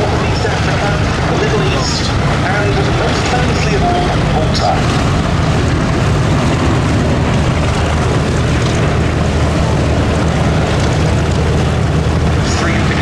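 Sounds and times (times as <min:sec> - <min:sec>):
biplane radial engine running: 0:00.0 - 0:13.0.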